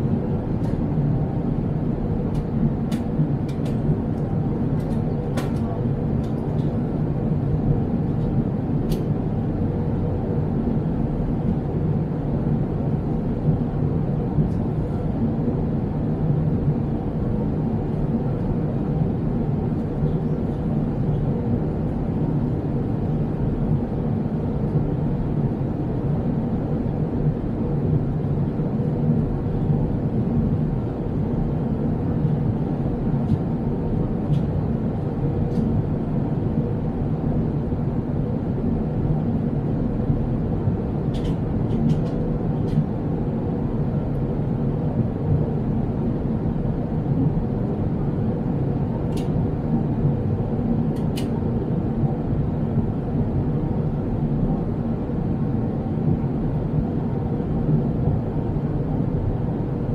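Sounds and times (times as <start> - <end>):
jet airliner cabin drone: 0.0 - 59.9.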